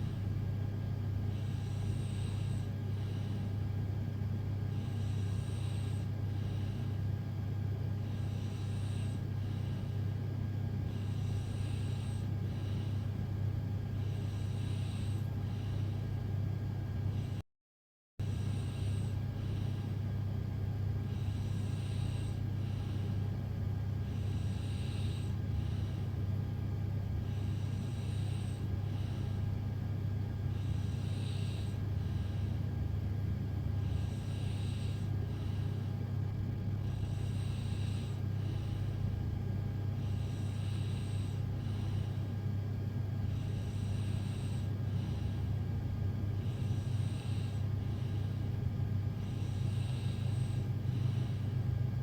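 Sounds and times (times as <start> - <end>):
steady low hum: 0.0 - 17.4, 18.2 - 52.0
woman breathing while asleep: 1.2 - 16.0, 18.2 - 52.0.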